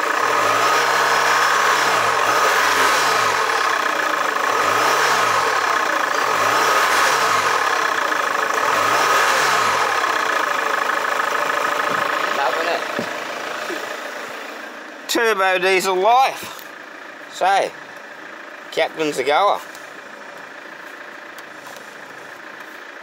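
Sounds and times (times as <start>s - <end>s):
diesel engine revving: 0.0s - 23.0s.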